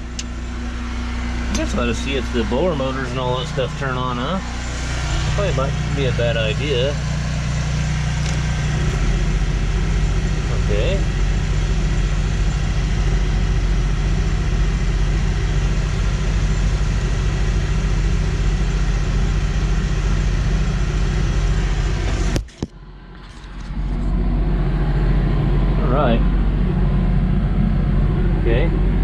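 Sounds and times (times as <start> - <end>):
blower fan running: 0.0 - 29.0.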